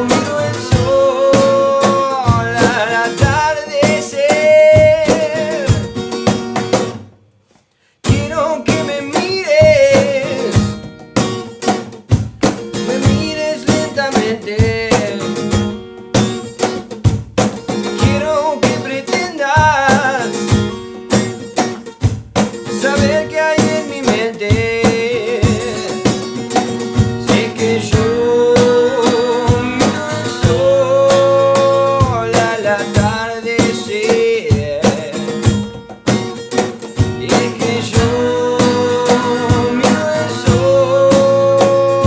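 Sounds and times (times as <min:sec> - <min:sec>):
sharp percussive hits: 0:00.0 - 0:07.1, 0:08.1 - 0:42.0
acoustic guitar: 0:00.0 - 0:42.0
percussion: 0:00.0 - 0:42.0.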